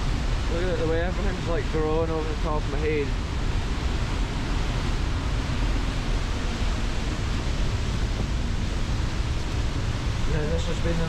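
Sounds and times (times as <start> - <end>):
waterfall and river roaring: 0.0 - 11.0.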